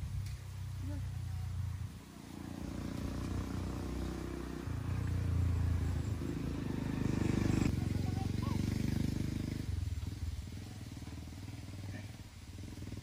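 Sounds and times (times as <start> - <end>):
small engine running: 2.2 - 13.0.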